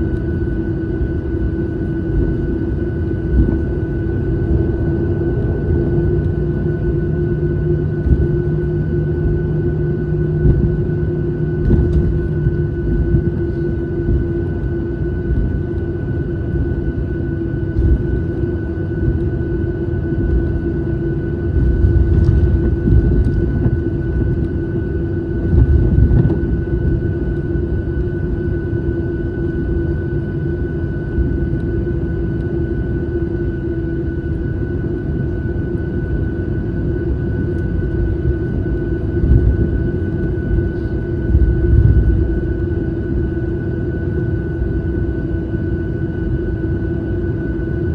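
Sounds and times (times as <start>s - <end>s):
airliner cabin engine drone: 0.0s - 47.9s
low hum: 0.0s - 47.9s.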